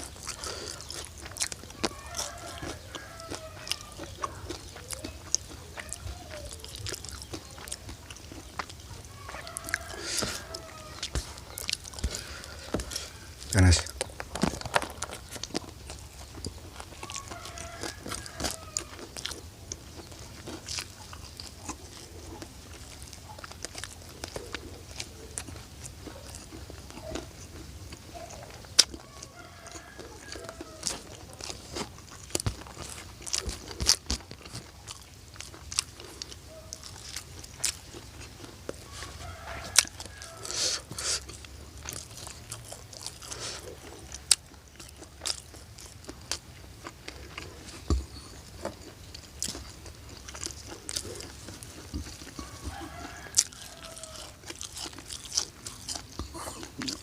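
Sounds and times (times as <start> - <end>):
chewing crispy food: 0.0 - 57.0.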